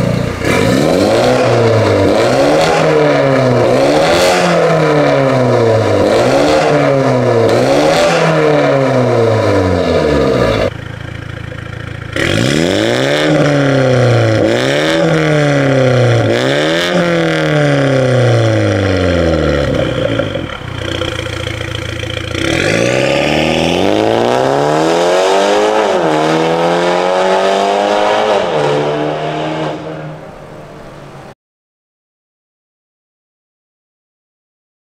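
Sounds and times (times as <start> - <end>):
car pulling away with upshifts: 0.0 - 31.1
car engine revving: 0.0 - 31.3.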